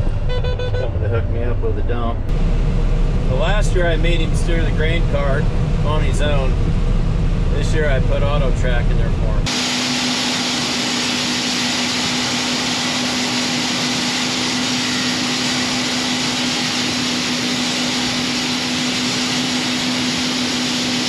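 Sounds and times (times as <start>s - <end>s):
harvest machinery drone: 0.0s - 21.0s.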